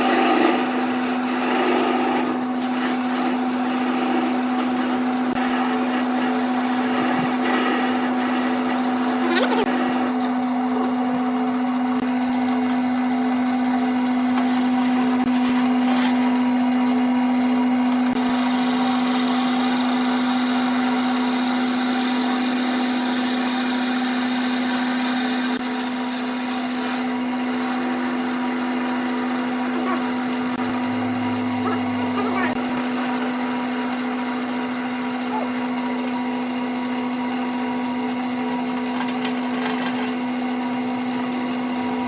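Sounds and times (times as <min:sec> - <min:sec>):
lathe whirring: 0:00.0 - 0:42.0
wood lathe motor hum: 0:00.0 - 0:42.0.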